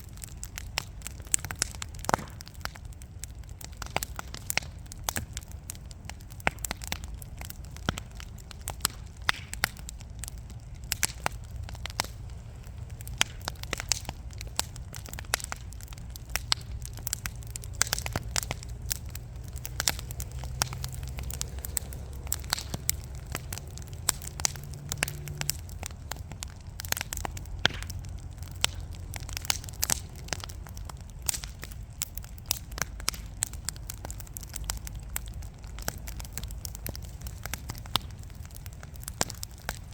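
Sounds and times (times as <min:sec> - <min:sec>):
logs crackling and popping: 0:00.0 - 0:39.9
low rumble of flame: 0:00.0 - 0:39.9.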